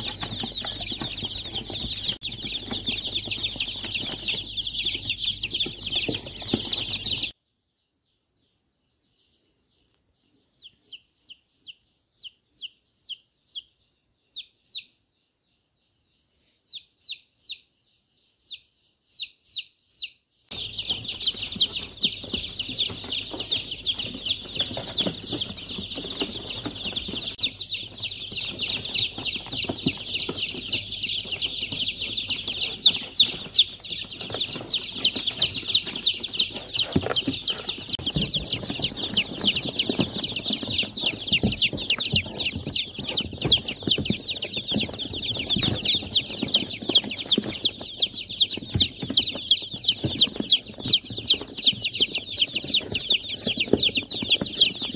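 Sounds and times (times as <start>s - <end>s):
chicks peeping in chorus: 0.0s - 54.9s
single chick peeping: 0.0s - 54.9s.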